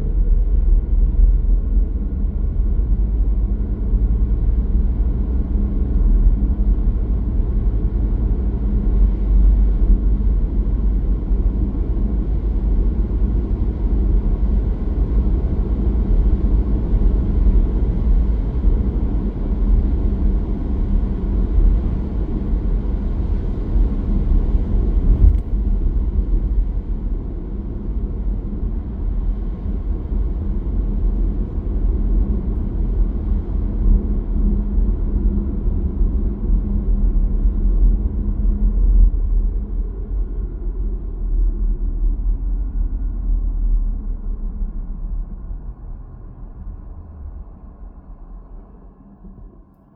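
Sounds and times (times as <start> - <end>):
car engine and road noise: 0.0 - 49.8.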